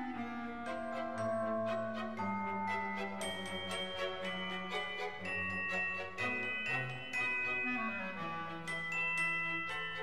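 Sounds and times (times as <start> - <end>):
bell-like struck notes melody: 0.0 - 10.0.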